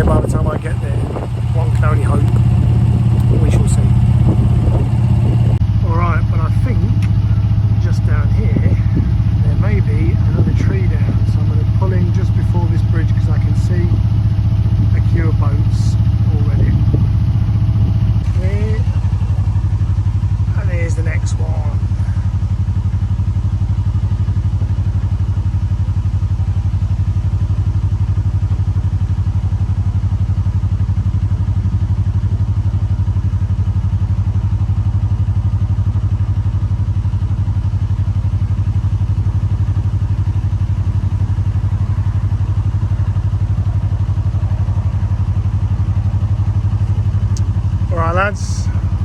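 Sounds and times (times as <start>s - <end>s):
boat diesel engine throbbing: 0.0s - 25.2s, 34.6s - 49.0s.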